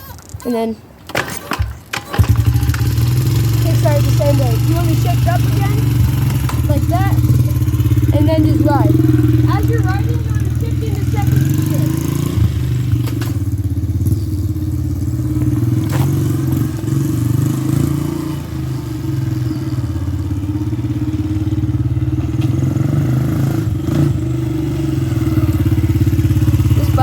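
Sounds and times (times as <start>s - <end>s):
small motorbike engine running: 0.0s - 27.0s.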